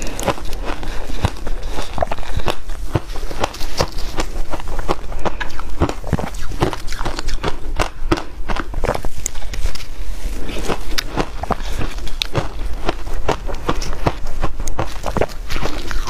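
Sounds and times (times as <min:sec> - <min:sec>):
chewing ice crunches: 0:00.0 - 0:16.0.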